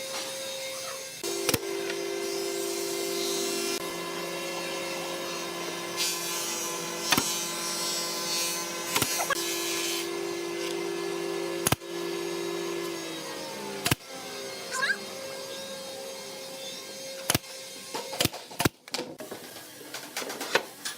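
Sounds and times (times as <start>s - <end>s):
power tool motor humming: 0.0s - 18.4s
saw cutting wood: 0.0s - 18.6s.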